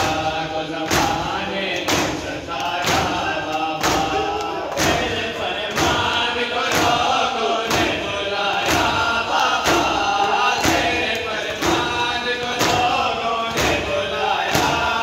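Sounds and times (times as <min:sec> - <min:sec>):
crowd singing a lament: 0:00.0 - 0:15.0
hands slapping chests: 0:00.8 - 0:08.0, 0:08.6 - 0:15.0.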